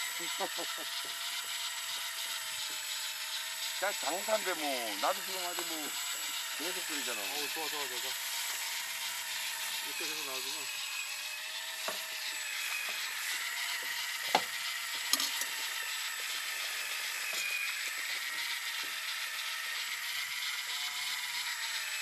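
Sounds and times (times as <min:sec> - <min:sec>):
electric fishing reel whirring: 0:00.0 - 0:22.0.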